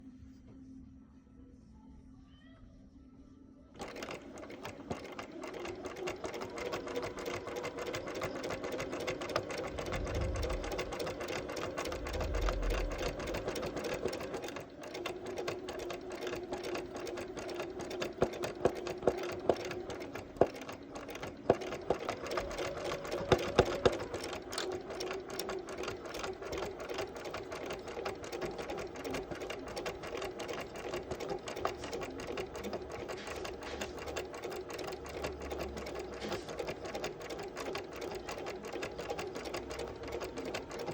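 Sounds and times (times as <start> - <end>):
sewing machine stitching: 3.8 - 40.9.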